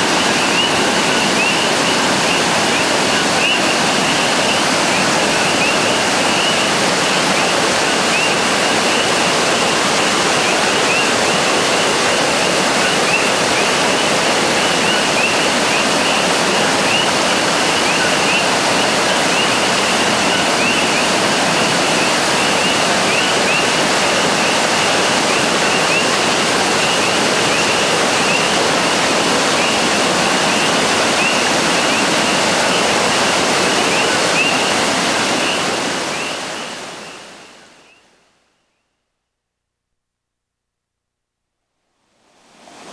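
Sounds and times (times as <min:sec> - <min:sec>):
river rushing over rocks: 0:00.0 - 0:37.7.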